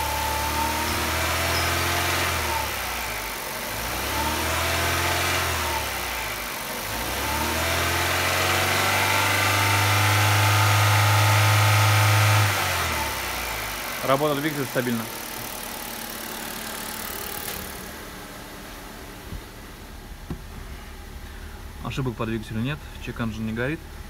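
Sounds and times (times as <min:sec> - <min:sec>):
car engine revving: 0:00.0 - 0:22.1.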